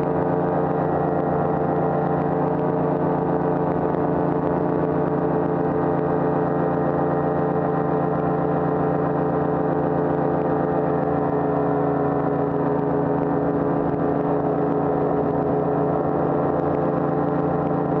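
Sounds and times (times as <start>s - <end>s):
paramotor engine droning: 0.0s - 18.0s.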